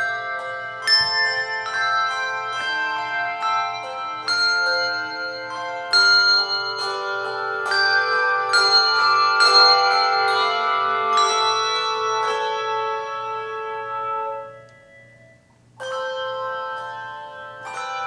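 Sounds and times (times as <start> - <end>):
handbell choir playing: 0.0 - 18.0.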